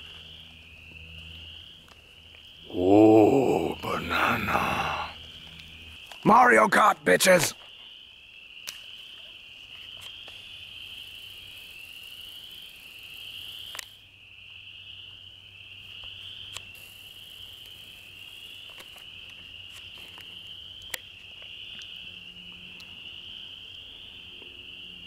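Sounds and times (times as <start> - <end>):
frogs trilling: 0.0 - 25.0.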